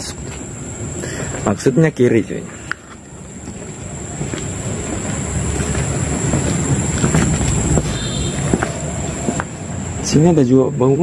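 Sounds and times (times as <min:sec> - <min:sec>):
high-pitched insect trill: 0:00.0 - 0:11.0
road traffic rumble: 0:00.0 - 0:11.0.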